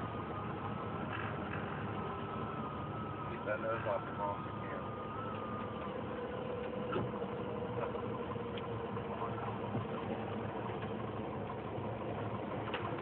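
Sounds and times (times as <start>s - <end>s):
small plane engine idling: 0.0s - 13.0s.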